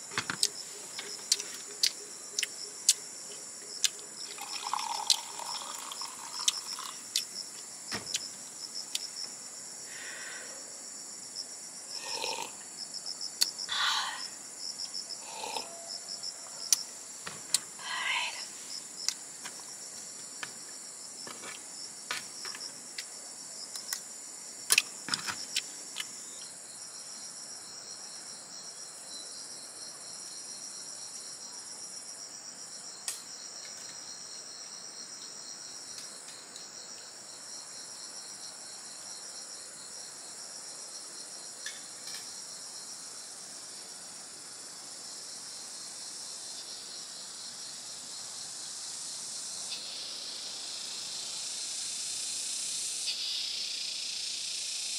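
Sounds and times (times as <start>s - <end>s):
forest insects droning: 0.0s - 54.9s.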